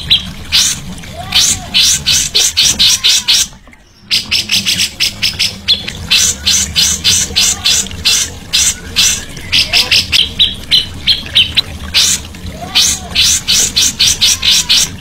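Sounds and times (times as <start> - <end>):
songbird harsh rasping calls: 0.1 - 15.0.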